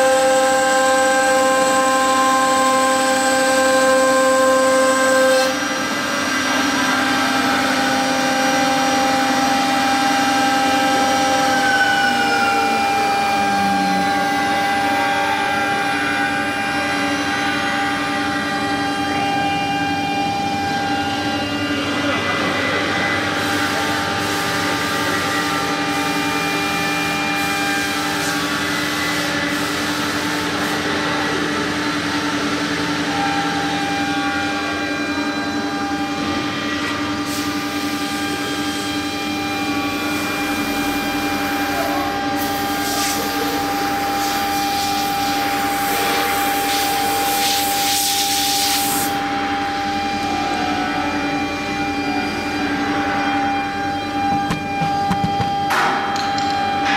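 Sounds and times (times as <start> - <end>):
router spindle whine: 0.0 - 47.8, 48.4 - 56.9.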